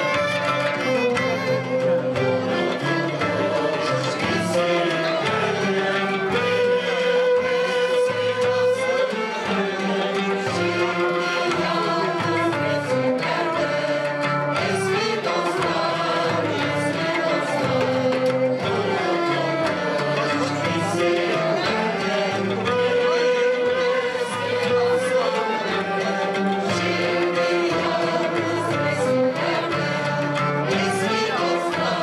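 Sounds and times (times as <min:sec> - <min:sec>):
classical ensemble playing melody: 0:00.0 - 0:32.0
frame drum steady beat: 0:00.0 - 0:32.0.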